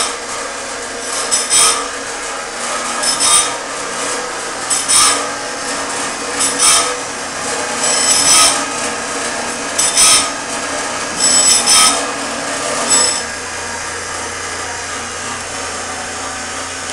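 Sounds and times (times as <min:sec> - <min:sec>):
electric motors humming: 0:00.0 - 0:16.9
grinding wheel rasping on blade: 0:00.0 - 0:16.9.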